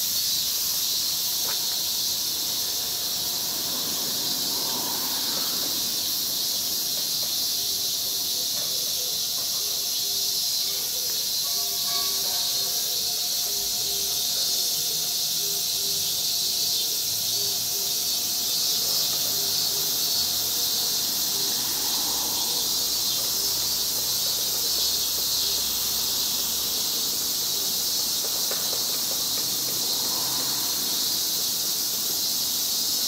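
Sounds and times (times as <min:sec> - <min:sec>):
insects chorus buzzing: 0:00.0 - 0:33.0.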